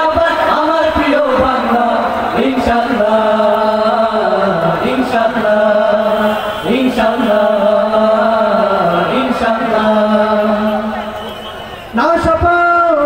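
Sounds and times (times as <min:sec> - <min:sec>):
men singing into microphones: 0:00.0 - 0:11.2.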